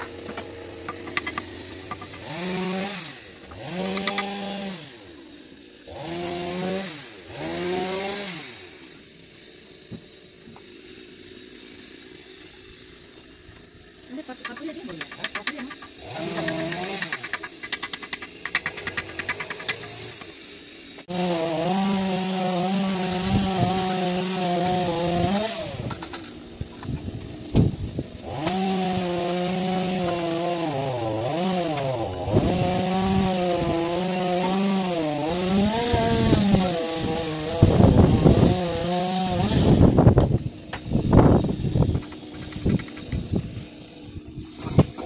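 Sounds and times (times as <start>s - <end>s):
power cutting tool running: 0.0s - 45.0s.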